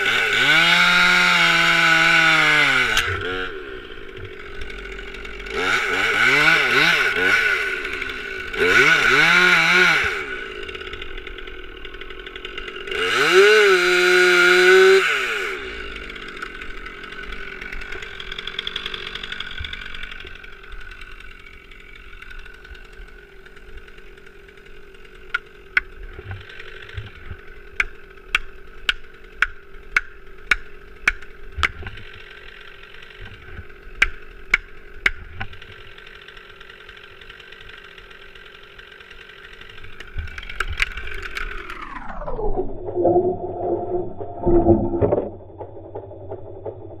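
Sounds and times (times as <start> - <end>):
chainsaw revving and idling: 0.0 - 42.4.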